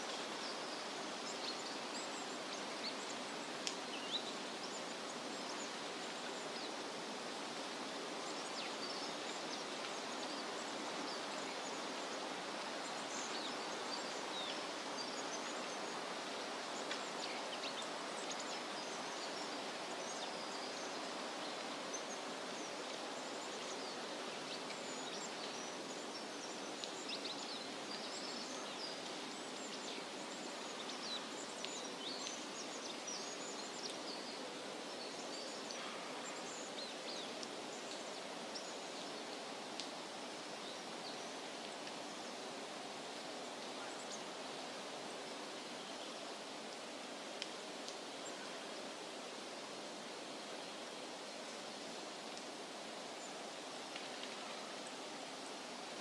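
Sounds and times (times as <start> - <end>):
small birds chirping: 0.0 - 56.0
stream running over rocks: 0.0 - 56.0.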